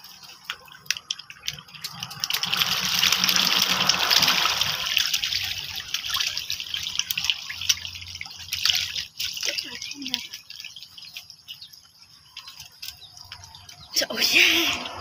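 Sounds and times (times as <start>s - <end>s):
fish splashing at water surface: 0.0s - 15.0s.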